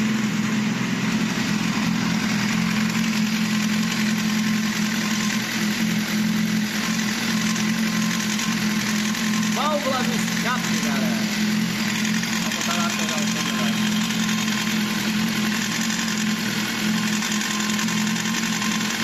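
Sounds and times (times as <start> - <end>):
exhaust valve mechanical noise: 0.0 - 19.0
motorcycle engine idling: 0.0 - 19.0.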